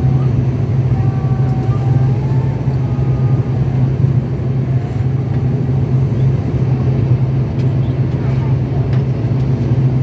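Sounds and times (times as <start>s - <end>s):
turboprop engines droning: 0.0s - 10.0s.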